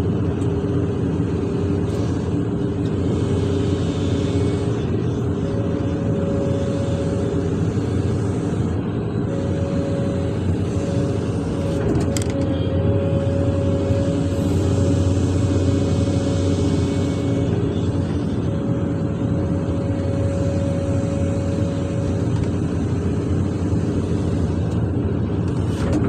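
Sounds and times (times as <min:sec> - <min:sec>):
excavator diesel engine running: 0:00.0 - 0:26.0
steady whine: 0:00.0 - 0:26.0.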